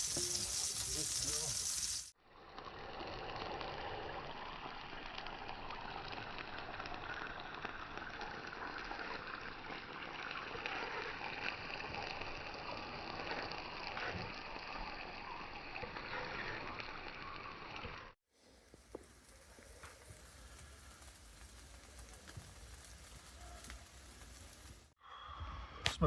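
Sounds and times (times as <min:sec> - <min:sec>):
burger sizzling over fire: 0:00.0 - 0:25.0
fire crackling and popping: 0:00.0 - 0:25.0.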